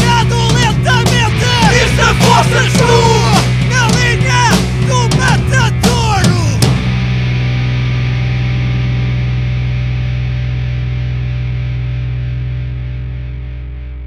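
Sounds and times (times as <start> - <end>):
distorted guitar and bass chord: 0.0 - 14.0.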